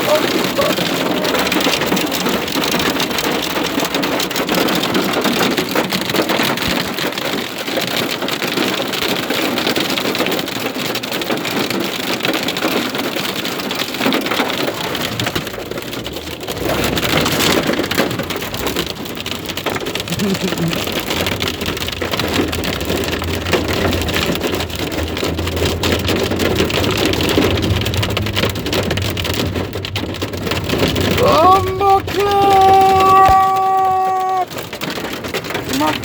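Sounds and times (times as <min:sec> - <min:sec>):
heavy rain and hail pelting: 0:00.0 - 0:36.0.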